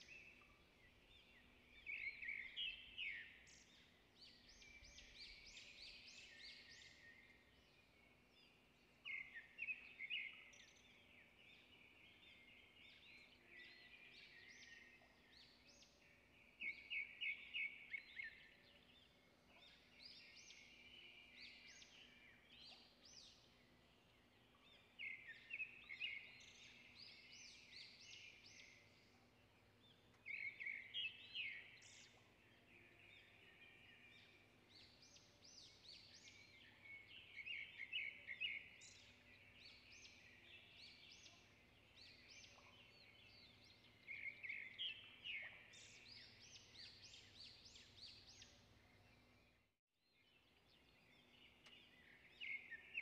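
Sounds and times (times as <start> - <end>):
songbird chirping: 0.0 - 53.0.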